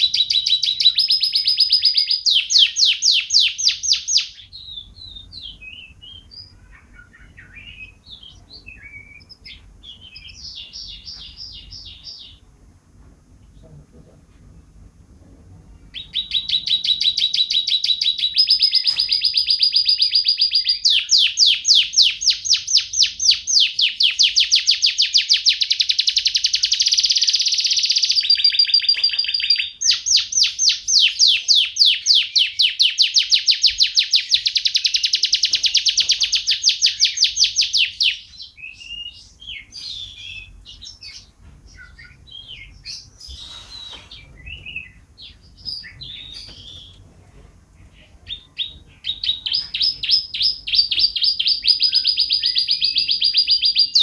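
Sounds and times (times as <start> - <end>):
canary chirping: 0.0 - 12.6, 15.8 - 47.0, 47.9 - 54.0
canary singing trills: 0.0 - 12.6, 15.8 - 47.0, 47.9 - 54.0.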